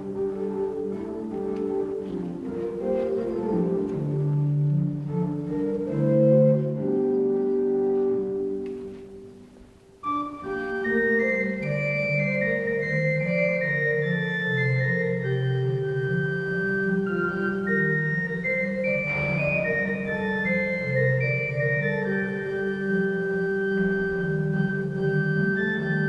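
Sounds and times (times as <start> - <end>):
pipe organ chords: 0.0 - 26.0.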